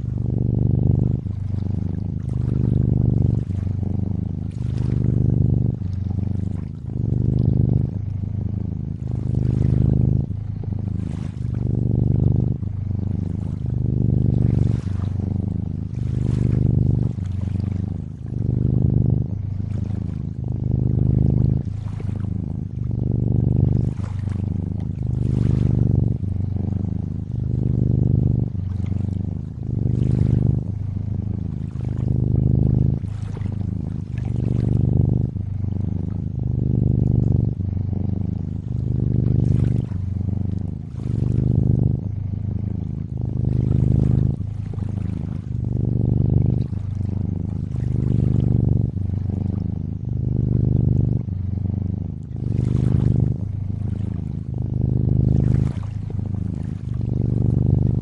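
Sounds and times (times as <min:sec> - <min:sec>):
water lapping and trickling: 0:00.0 - 0:37.7, 0:38.4 - 0:51.4, 0:52.1 - 0:58.0
cat purring: 0:00.0 - 0:58.0.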